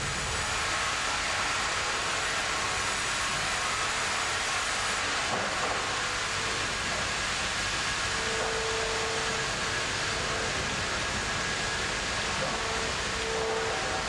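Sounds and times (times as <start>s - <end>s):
band saw machinery running: 0.0s - 14.0s.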